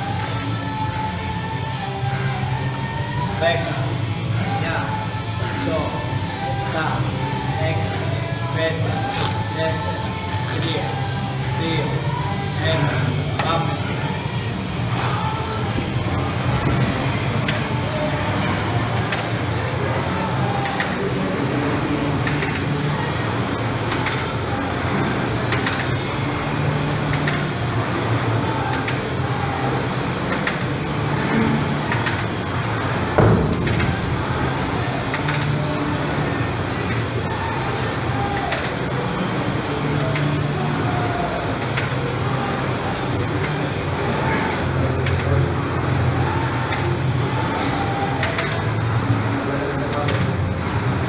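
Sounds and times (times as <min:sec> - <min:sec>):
gym background noise: 0:00.0 - 0:51.0
rowing machine fan whirring: 0:00.0 - 0:51.0
faint voices: 0:00.6 - 0:51.0.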